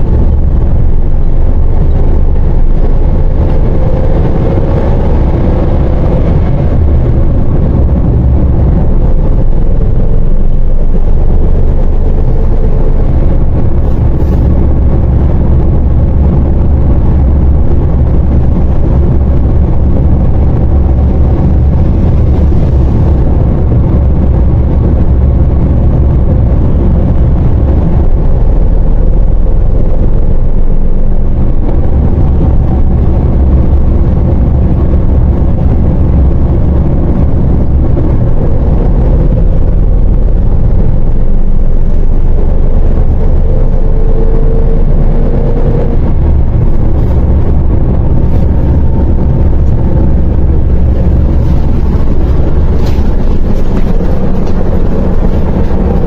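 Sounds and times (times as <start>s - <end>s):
bus engine and road rumble: 0.0s - 56.0s
faint whine rising in pitch: 0.0s - 56.0s.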